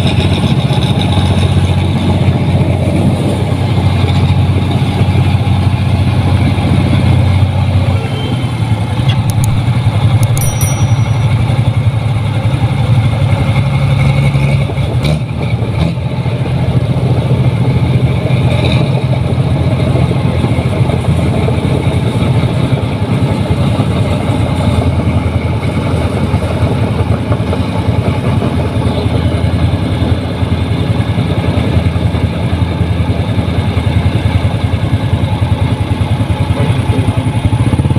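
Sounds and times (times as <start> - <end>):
combine harvester engine: 0.0 - 37.9
motorcycle engines: 0.0 - 37.9.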